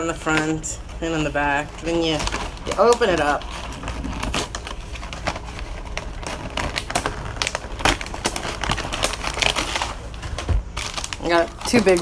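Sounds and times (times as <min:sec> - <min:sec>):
cardboard box crackling: 0:01.1 - 0:12.0.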